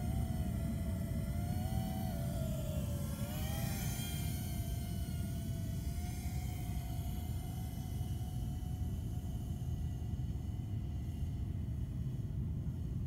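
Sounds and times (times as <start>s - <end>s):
electric motor and propeller whining: 0.0s - 13.0s.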